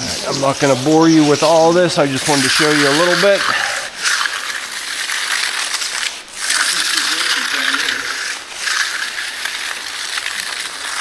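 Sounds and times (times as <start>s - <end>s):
trowel scraping concrete: 0.0s - 11.0s.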